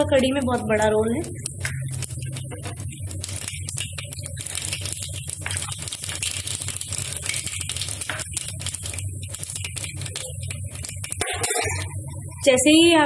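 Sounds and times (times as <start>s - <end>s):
seeds crackling and popping in oil: 0.0s - 12.0s
oil sizzling: 0.0s - 12.6s.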